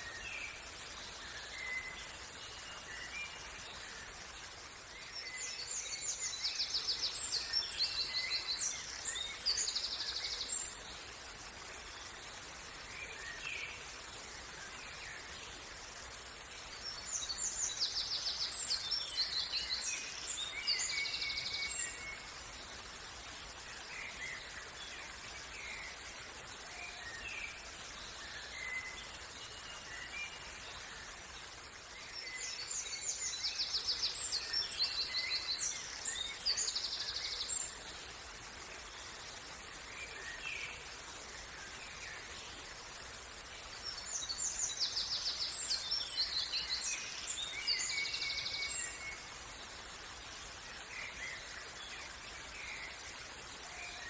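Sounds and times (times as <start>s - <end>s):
outdoor background hiss: 0.0s - 54.0s
songbirds trilling and chirping: 0.0s - 54.0s.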